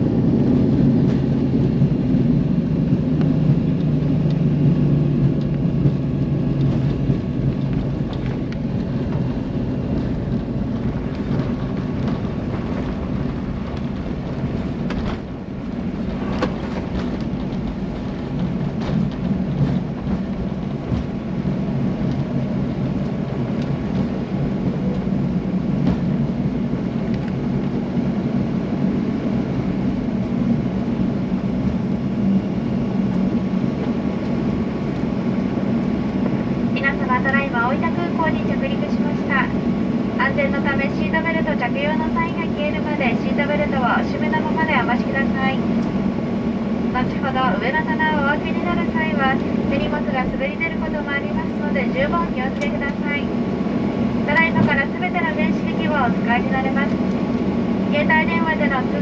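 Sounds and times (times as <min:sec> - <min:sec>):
engines and wheels rumbling: 0:00.0 - 0:59.0.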